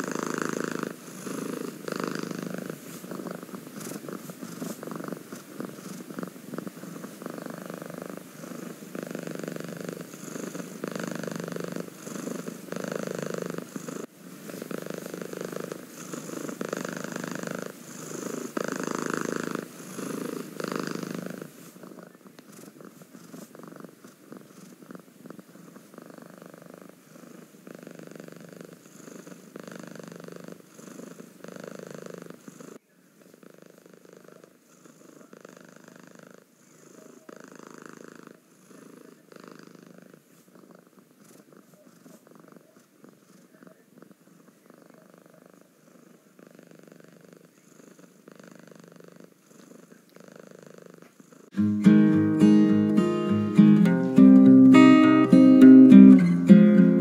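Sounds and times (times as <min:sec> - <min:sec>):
cat purring: 0:00.0 - 0:51.6.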